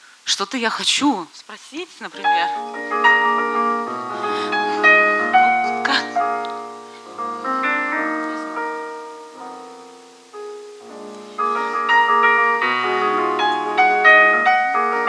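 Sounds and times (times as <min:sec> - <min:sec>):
solo piano playing chords: 0:02.2 - 0:15.0.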